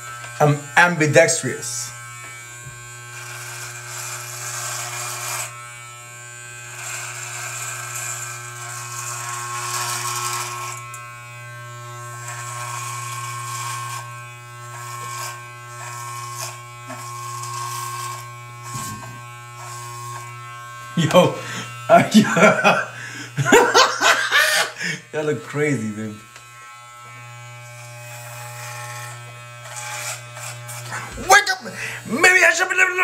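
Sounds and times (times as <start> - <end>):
electric hair clipper buzzing: 0.0 - 33.0.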